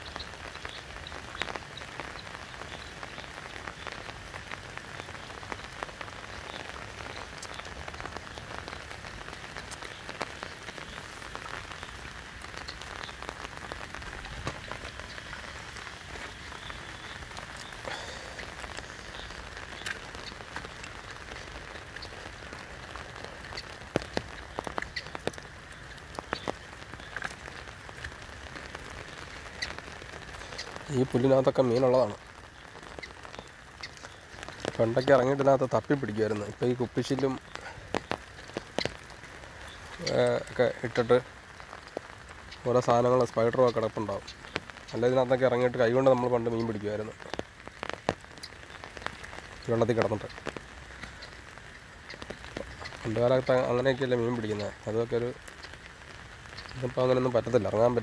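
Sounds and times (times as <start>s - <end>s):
rain falling on water: 0.0s - 58.0s.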